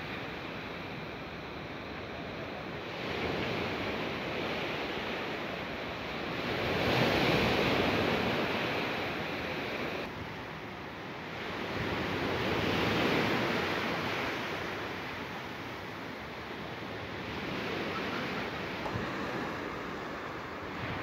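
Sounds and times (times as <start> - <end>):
sea waves washing in: 0.0 - 21.0.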